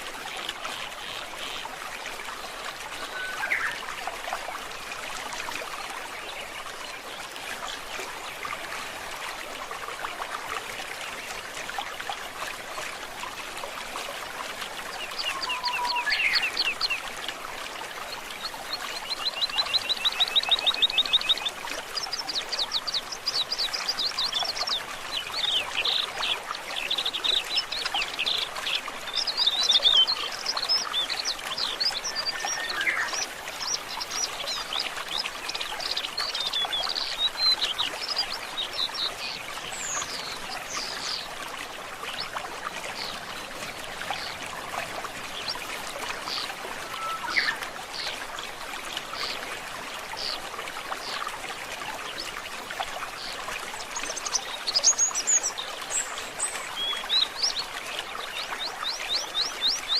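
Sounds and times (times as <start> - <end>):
flowing stream: 0.0 - 59.9.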